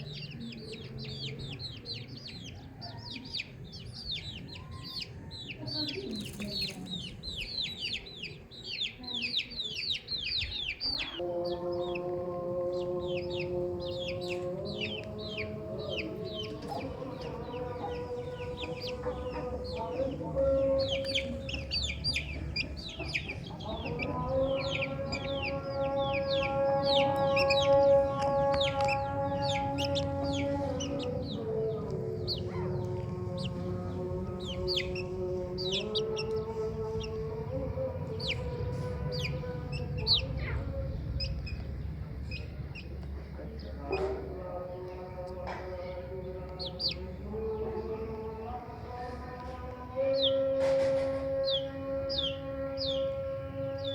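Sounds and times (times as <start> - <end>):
baby chicks peeping: 0.0 - 53.9
low background hum: 10.4 - 53.9.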